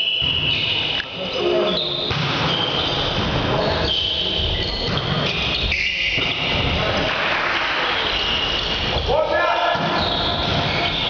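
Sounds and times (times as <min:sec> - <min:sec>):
sneakers squeaking on court floor: 0:00.1 - 0:06.8, 0:08.0 - 0:09.1, 0:09.7 - 0:11.0
players moving and calling: 0:00.2 - 0:11.0.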